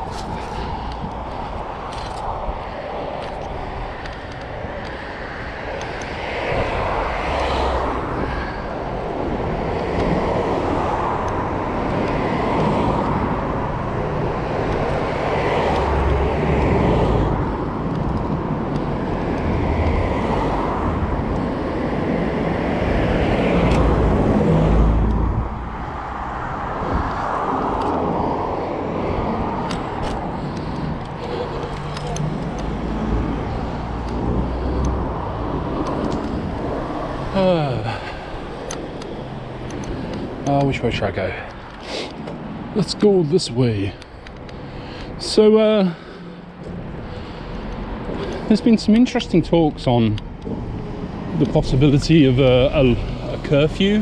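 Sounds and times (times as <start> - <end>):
road traffic noise: 0.0 - 54.0
wind buffeting microphone: 0.0 - 54.0.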